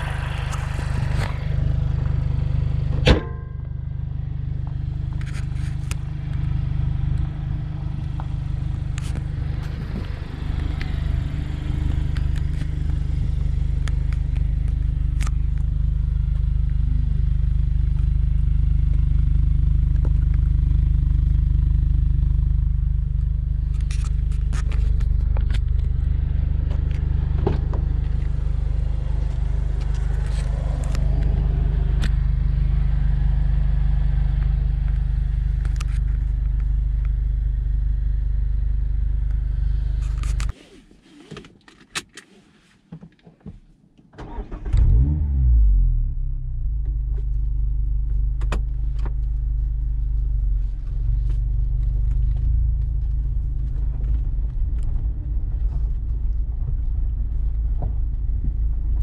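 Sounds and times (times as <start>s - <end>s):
car engine idling: 0.0s - 40.5s, 44.2s - 59.0s.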